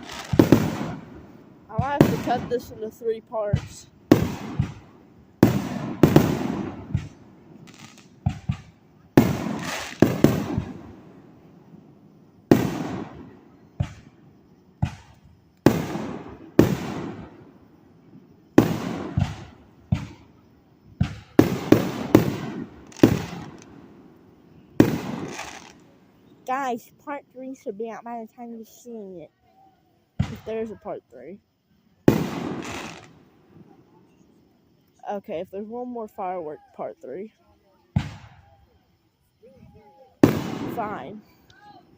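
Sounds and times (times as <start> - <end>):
fireworks bangs: 0.0 - 27.2, 30.2 - 34.5, 37.9 - 38.5, 39.5 - 41.9.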